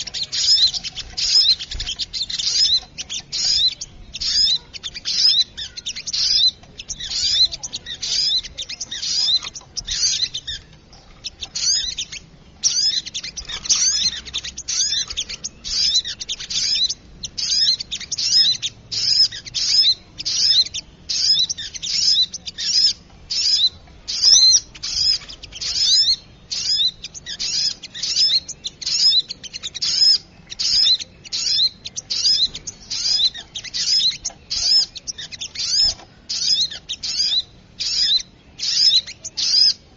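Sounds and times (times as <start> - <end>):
birds calling in chatter: 0.0 - 39.9.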